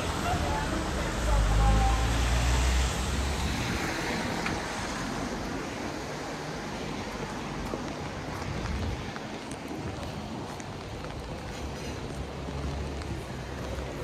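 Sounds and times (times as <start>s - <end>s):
passing vehicle on wet road: 0.0s - 14.0s
wet road traffic hiss: 0.0s - 14.0s.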